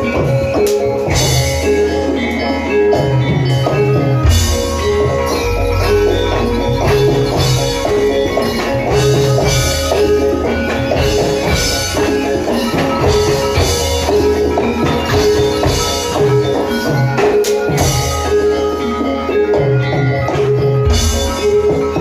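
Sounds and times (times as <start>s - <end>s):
drums: 0.0s - 22.0s
gamelan music: 0.0s - 22.0s
metallophone notes: 0.0s - 22.0s.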